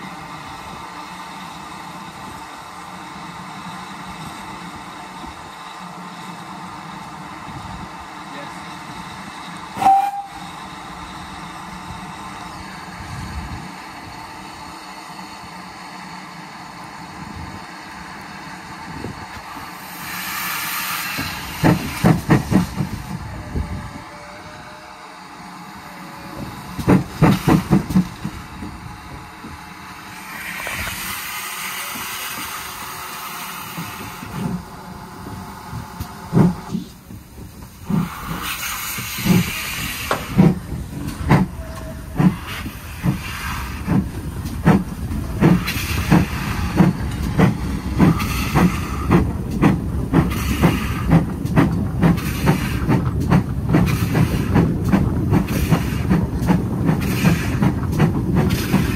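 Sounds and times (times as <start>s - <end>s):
steam hissing: 0.0s - 58.9s
steam locomotive running: 0.0s - 58.9s.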